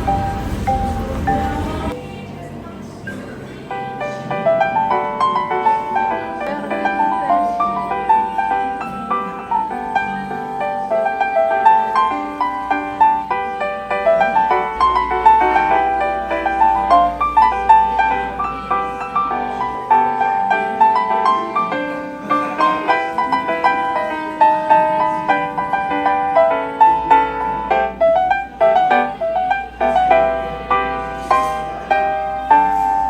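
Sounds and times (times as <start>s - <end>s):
gentle piano music: 0.0s - 33.0s.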